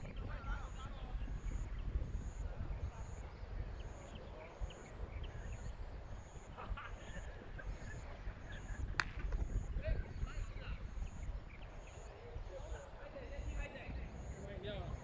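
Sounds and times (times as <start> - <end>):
faint distant voices: 0.0 - 15.0
wind rumbling on microphone: 0.0 - 15.0.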